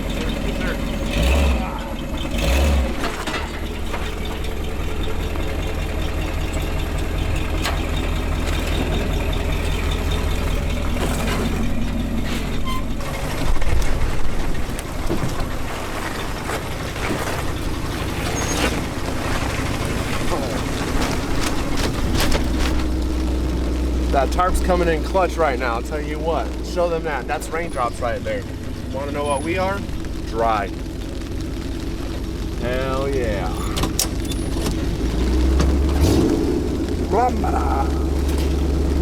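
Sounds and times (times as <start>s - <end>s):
engine low rumble: 0.0s - 39.0s.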